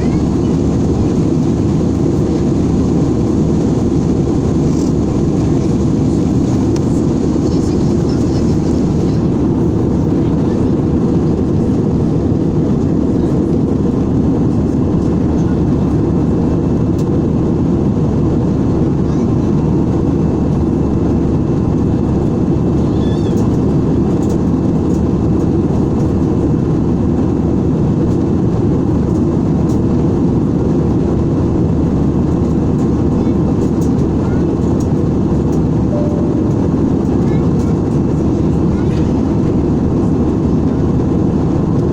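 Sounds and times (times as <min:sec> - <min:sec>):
airliner cabin noise: 0:00.0 - 0:41.9.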